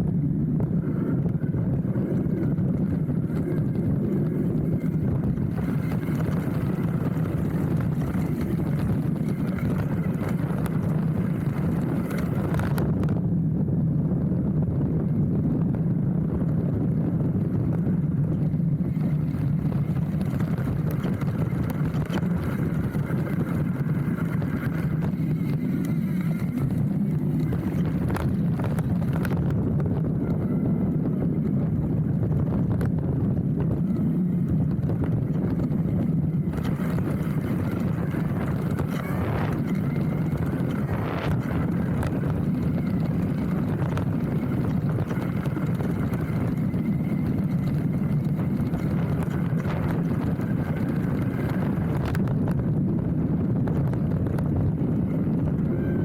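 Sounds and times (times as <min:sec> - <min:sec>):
bike tyres rumbling on dirt: 0:00.0 - 0:56.0
wind buffeting microphone: 0:00.0 - 0:56.0.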